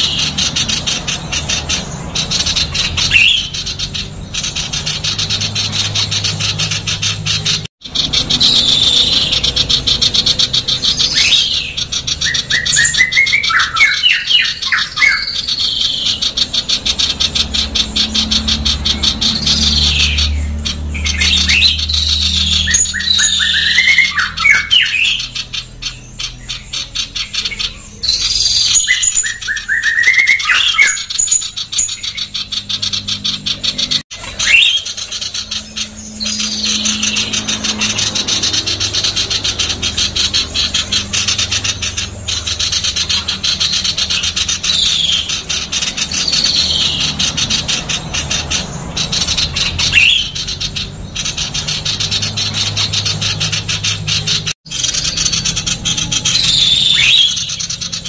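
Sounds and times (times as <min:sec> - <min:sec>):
bird harsh rasping chatter: 0:00.0 - 0:58.0.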